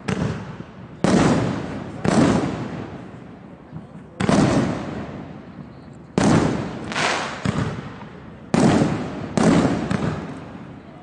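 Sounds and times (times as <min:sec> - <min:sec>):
small firework pops: 0:00.0 - 0:02.8, 0:03.7 - 0:05.0, 0:05.8 - 0:10.6
firework booms: 0:00.0 - 0:10.8.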